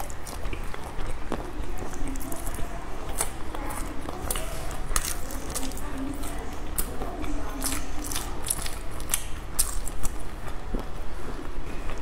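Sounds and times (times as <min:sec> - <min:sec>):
wet chewing and lip smacks: 0:00.0 - 0:12.0.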